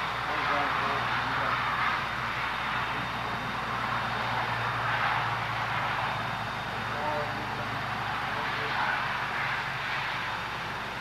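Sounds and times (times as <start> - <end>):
constant low hum: 0.0 - 11.0
steady rushing noise: 0.0 - 11.0.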